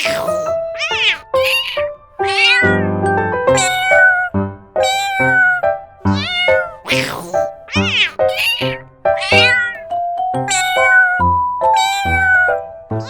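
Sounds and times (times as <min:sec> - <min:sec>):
cat meowing: 0:00.0 - 0:02.9, 0:03.5 - 0:09.9, 0:10.5 - 0:13.0.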